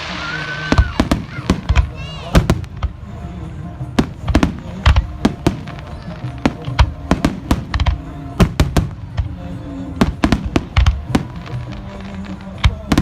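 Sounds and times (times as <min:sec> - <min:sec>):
fireworks bangs: 0:00.0 - 0:13.0
music playing: 0:00.0 - 0:13.0.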